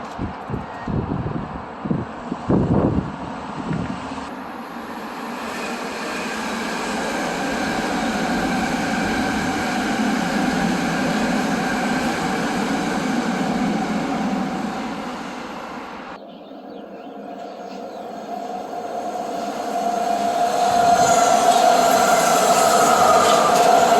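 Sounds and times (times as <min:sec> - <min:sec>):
train passing rumble: 0:00.0 - 0:23.9.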